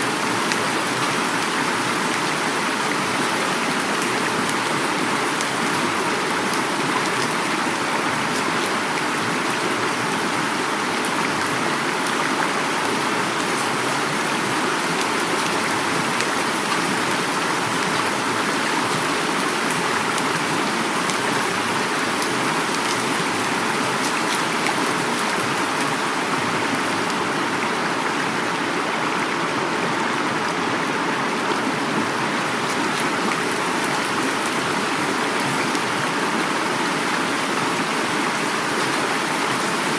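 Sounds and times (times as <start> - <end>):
flowing stream: 0.0 - 39.9
heavy rain falling: 0.0 - 39.9.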